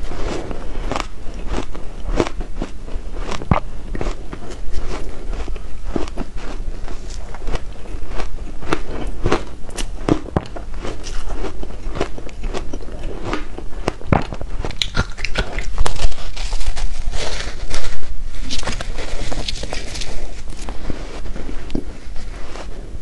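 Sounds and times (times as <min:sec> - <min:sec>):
crunchy ice chewing: 0:00.2 - 0:20.8.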